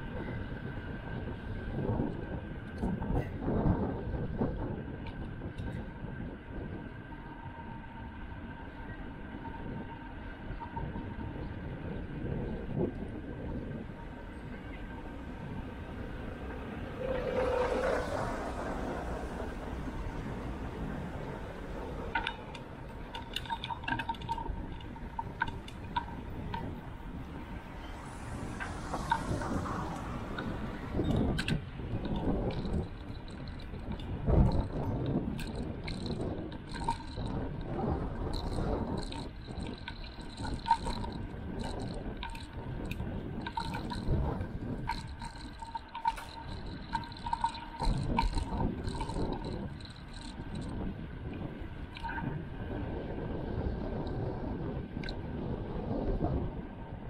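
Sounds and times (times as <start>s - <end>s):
bicycle road rumble: 0.0s - 57.0s
wind noise: 0.0s - 57.0s.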